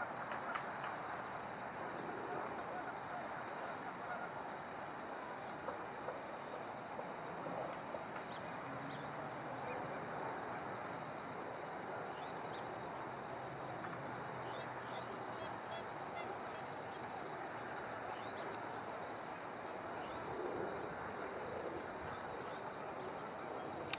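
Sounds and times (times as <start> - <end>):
distant geese honking: 0.0 - 6.7, 8.9 - 23.9
outdoor background noise: 0.0 - 23.9.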